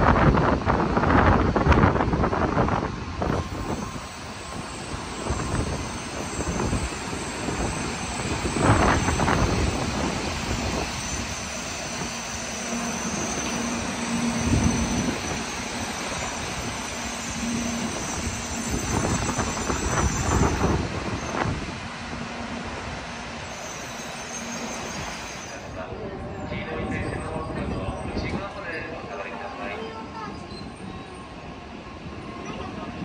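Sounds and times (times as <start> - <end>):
train rushing on rails: 0.0 - 33.0.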